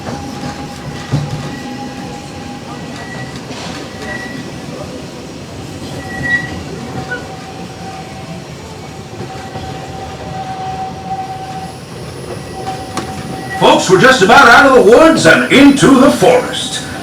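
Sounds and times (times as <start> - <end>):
train wheels rumbling on rail: 0.0 - 17.0
thin high wheel squeal: 0.7 - 4.5, 5.8 - 8.4, 9.2 - 17.0.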